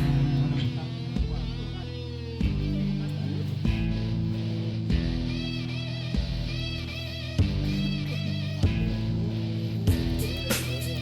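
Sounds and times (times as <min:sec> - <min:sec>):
guitar music with steady beat: 0:00.0 - 0:11.0.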